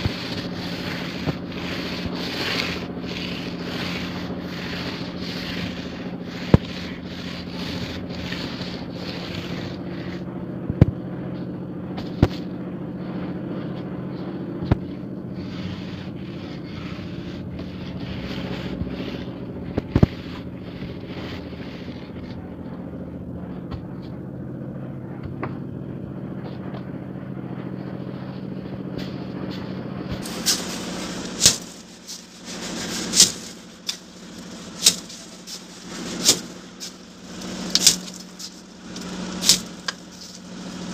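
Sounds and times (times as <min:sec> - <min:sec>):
straightedge scraping wet plaster: 0:00.0 - 0:24.2, 0:24.9 - 0:40.9
machine hum: 0:00.0 - 0:40.9.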